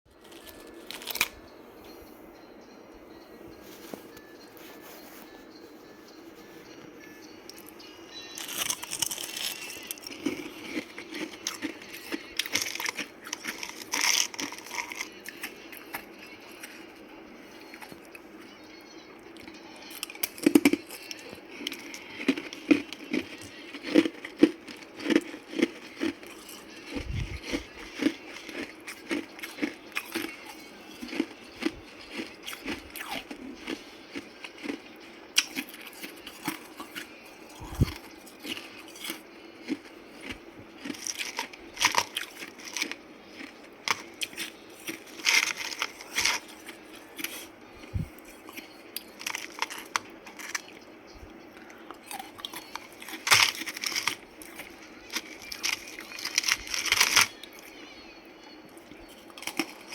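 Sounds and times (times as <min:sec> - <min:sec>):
ice being chewed: 0:00.1 - 0:01.4, 0:08.4 - 0:17.0, 0:17.6 - 0:18.2, 0:19.3 - 0:57.8, 0:58.7 - 0:59.9.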